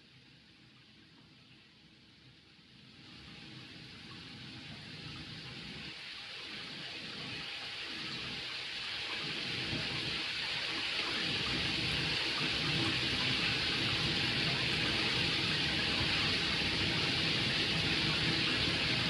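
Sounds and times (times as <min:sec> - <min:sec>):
running water: 0:02.9 - 0:19.0.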